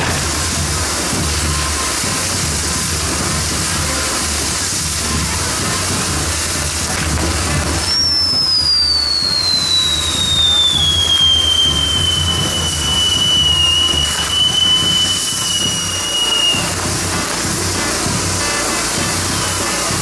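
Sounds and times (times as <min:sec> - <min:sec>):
burning pyrotechnics hissing and crackling: 0:00.0 - 0:20.0
firework whistling: 0:00.0 - 0:20.0.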